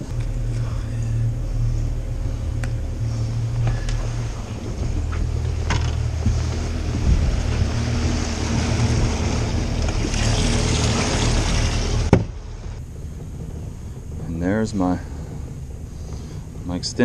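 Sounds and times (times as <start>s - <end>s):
wind on microphone: 0.0s - 16.9s
outboard motor running: 0.0s - 17.0s
water churning: 0.0s - 17.0s.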